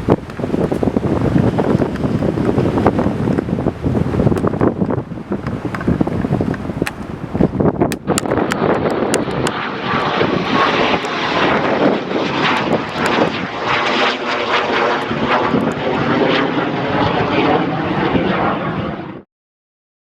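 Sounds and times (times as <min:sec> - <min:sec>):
fighter jet flying past: 0:00.0 - 0:19.3.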